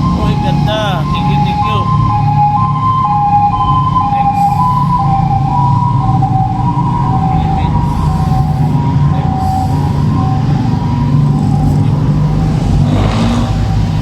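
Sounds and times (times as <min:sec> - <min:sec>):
steady low rumble: 0:00.0 - 0:14.0
two-tone siren: 0:00.0 - 0:14.0.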